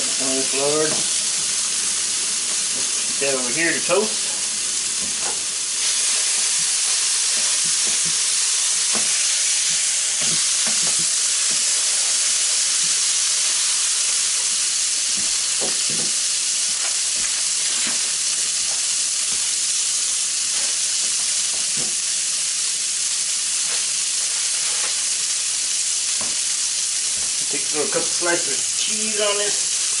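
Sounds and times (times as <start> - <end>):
burger sizzling on griddle: 0.0 - 30.0.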